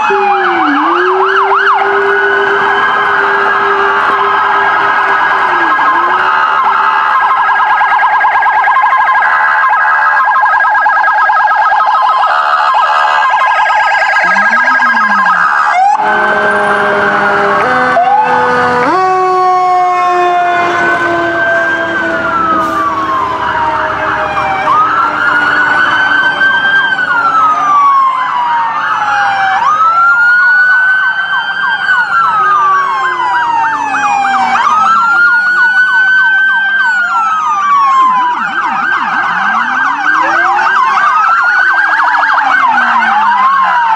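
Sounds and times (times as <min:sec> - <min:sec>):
siren fast warbling yelp: 0:00.0 - 0:07.9, 0:11.7 - 0:43.9
sirens wailing: 0:00.0 - 0:43.9.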